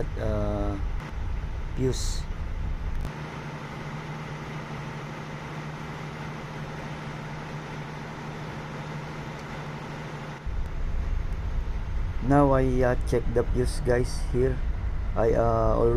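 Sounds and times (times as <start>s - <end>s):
ship machinery drone: 0.0s - 15.9s.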